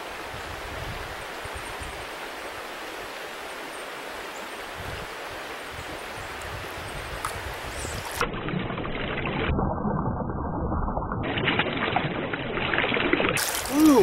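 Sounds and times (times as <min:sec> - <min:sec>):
stream water flowing: 0:00.0 - 0:09.6, 0:11.2 - 0:14.0.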